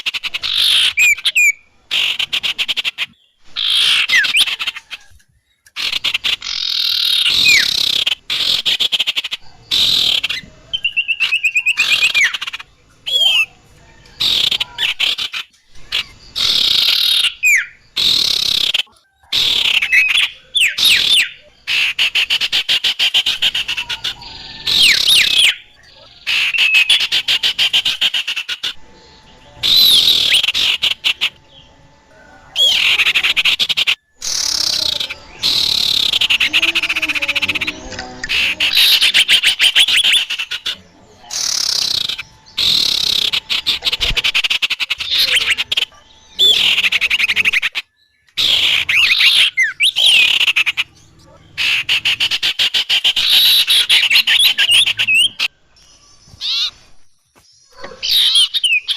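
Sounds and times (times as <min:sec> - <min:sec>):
small birds chattering: 0:00.0 - 0:58.9.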